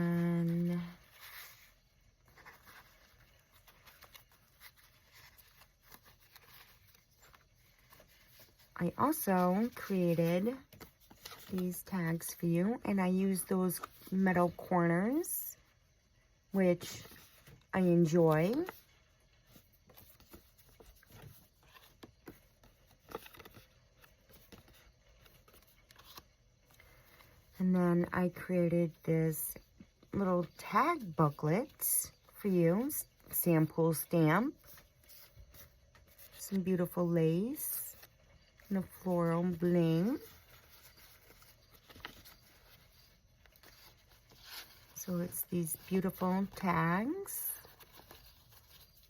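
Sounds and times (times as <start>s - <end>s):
paper rustling: 0.1s - 15.7s, 16.7s - 49.0s.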